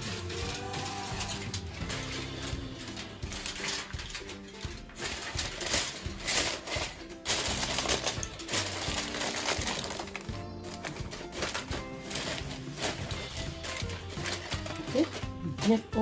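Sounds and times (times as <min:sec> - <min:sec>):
aluminium foil crinkling: 0:00.0 - 0:16.0
background music: 0:00.0 - 0:16.0.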